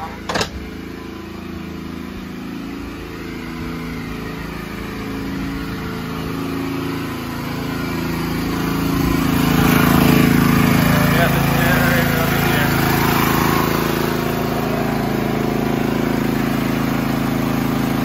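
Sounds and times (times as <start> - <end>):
generator engine running: 0.0 - 18.0.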